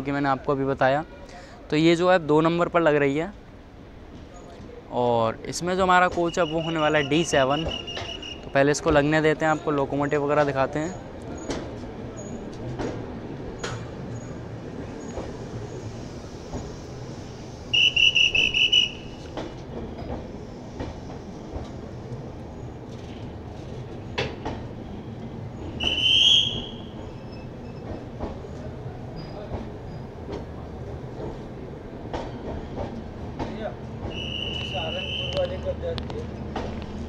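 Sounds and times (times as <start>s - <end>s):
train rolling with low rumble: 0.0s - 37.0s
train clanks: 5.6s - 37.0s.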